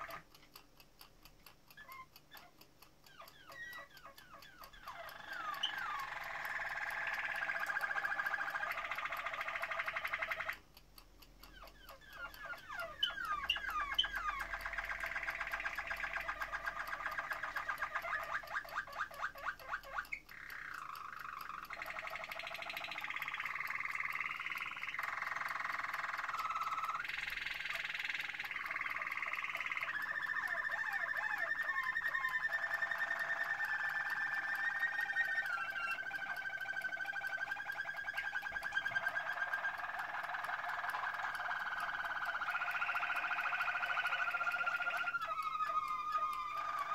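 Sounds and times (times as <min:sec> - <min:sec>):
canary singing: 0:00.0 - 0:00.5, 0:01.4 - 0:46.9.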